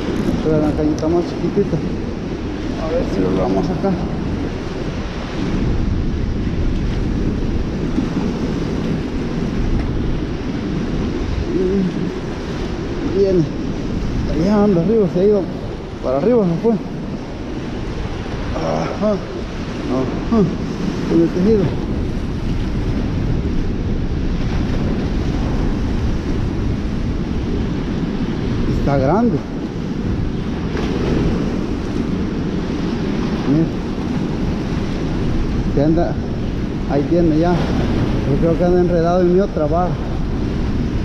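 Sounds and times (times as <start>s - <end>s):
floodwater rushing: 0.0s - 41.0s
wind buffeting microphone: 0.0s - 41.0s.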